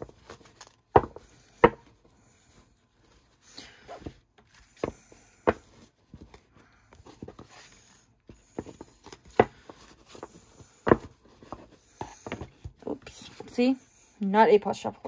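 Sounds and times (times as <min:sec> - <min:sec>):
cards sliding and rustling: 0:00.0 - 0:13.5.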